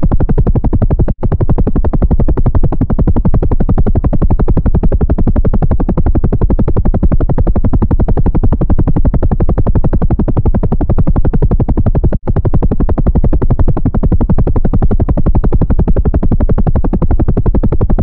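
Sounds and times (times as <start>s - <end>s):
helicopter rotor chopping: 0.0s - 18.0s.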